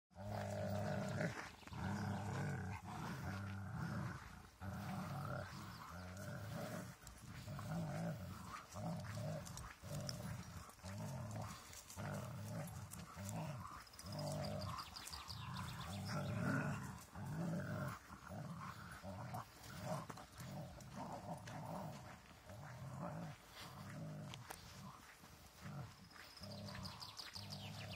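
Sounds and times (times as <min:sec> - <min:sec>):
dogs growling: 0:00.1 - 0:27.9.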